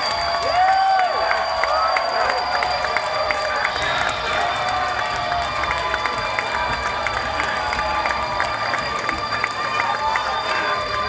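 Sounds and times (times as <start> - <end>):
audience cheering: 0.0 - 11.0
people clapping: 0.0 - 11.0.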